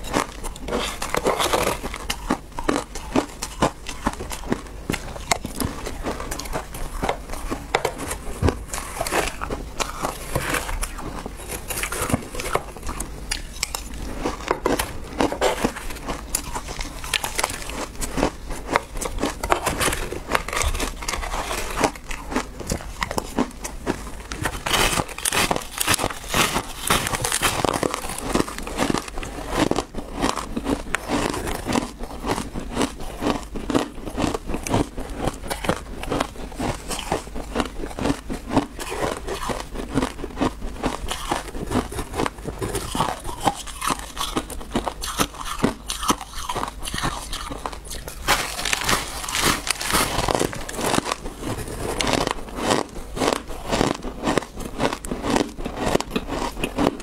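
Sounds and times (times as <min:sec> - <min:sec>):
ice being chewed and crunched: 0:00.0 - 0:57.0.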